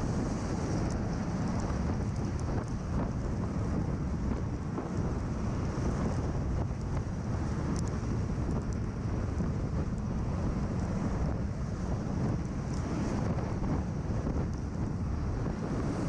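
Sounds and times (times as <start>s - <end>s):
aircraft engines and rotors: 0.0s - 16.0s
wind buffeting microphone: 0.0s - 16.0s.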